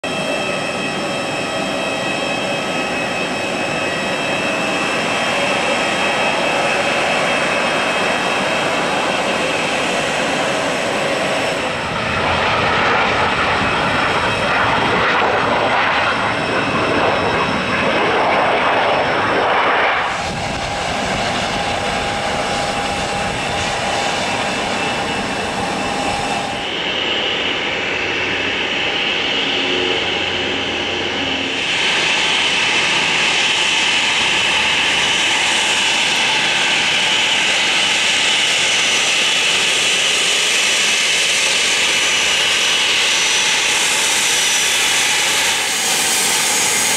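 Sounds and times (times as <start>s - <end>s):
jet engine rushing: 0.0s - 46.9s
jet engine whine: 0.0s - 46.9s.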